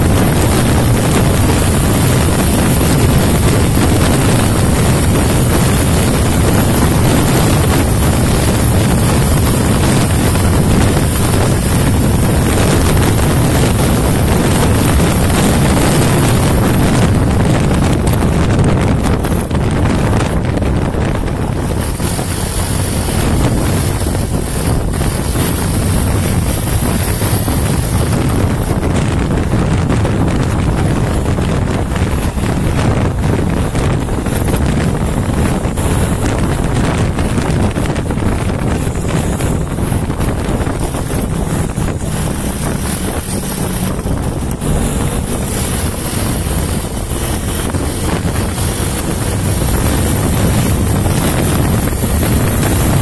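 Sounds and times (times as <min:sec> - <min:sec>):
motorcycle engine at high revs: 0:00.0 - 0:53.0
wind noise on microphone: 0:00.0 - 0:53.0.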